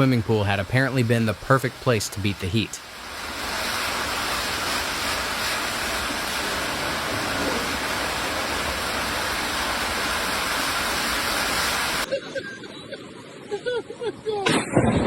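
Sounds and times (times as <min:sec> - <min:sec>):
steady rushing noise: 0:00.0 - 0:12.1.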